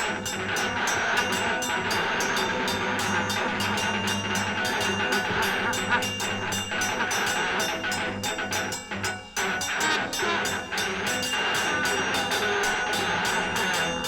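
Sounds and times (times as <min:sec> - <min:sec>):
rapid percussive strikes: 0:00.0 - 0:14.0
sustained instrumental tones: 0:00.0 - 0:14.0.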